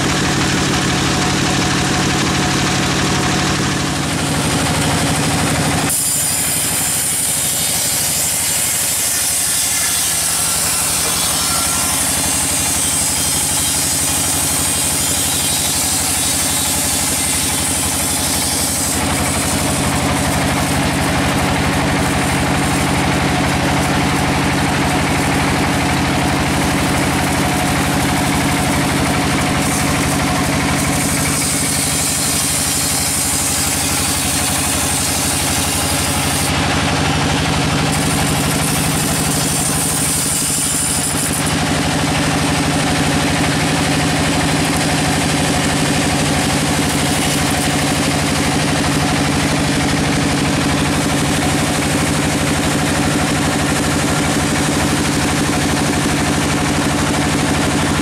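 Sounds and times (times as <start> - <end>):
band saw blade cutting log: 0.0 - 58.0
saw drive hum: 0.0 - 58.0.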